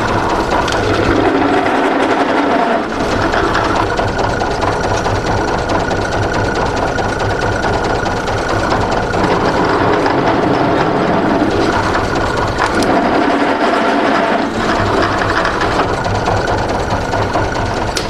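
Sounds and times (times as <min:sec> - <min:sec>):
drill press cutting metal: 0:00.0 - 0:18.0.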